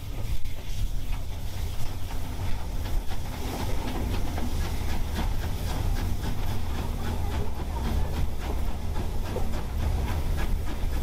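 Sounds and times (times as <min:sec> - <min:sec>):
steam hissing: 0:00.0 - 0:11.0
train rumble: 0:00.0 - 0:11.0
wheels clicking over rail joints: 0:00.0 - 0:11.0.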